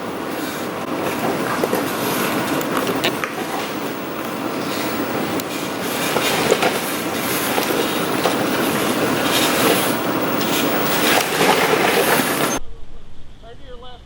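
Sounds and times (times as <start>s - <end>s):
truck engine under load: 0.0s - 12.6s
rocks crunching and grinding: 1.0s - 12.6s.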